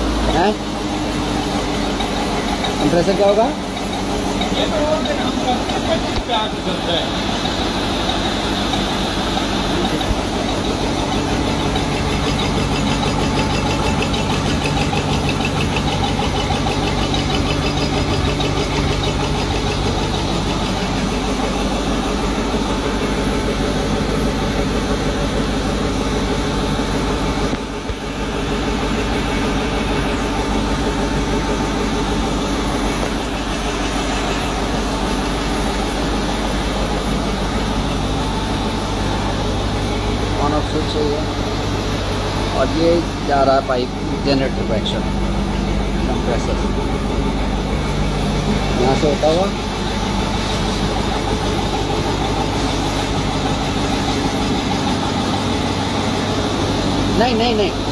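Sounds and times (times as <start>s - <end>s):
generator and compressor humming: 0.0s - 57.9s.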